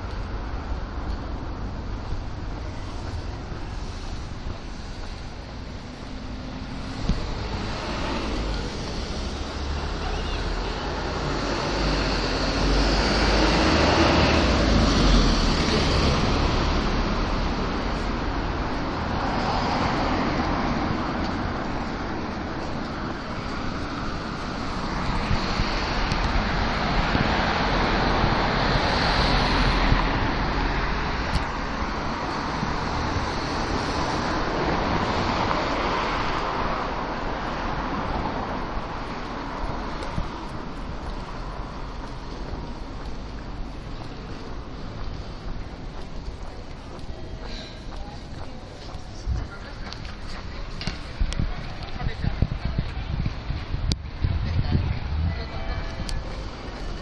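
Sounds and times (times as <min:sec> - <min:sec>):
cars passing on a street: 0:00.0 - 0:57.0.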